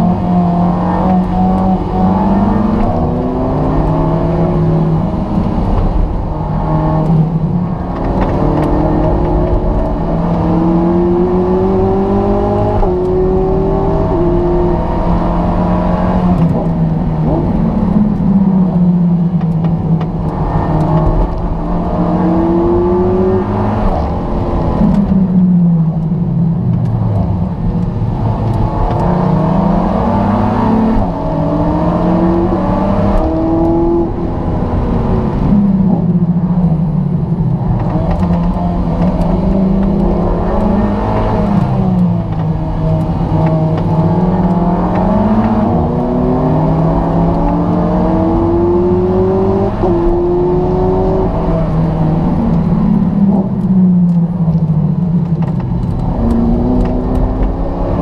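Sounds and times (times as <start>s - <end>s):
car engine revving through gears: 0.0s - 58.0s.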